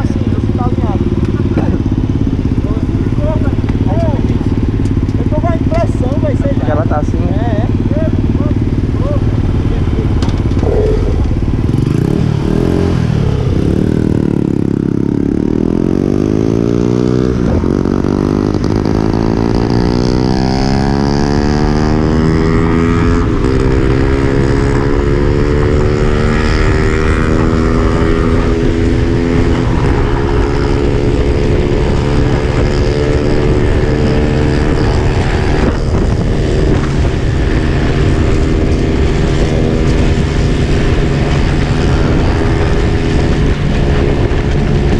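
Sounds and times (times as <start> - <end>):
motorcycle engine accelerating: 0.0 - 44.9
wind rumble on microphone: 0.0 - 44.9.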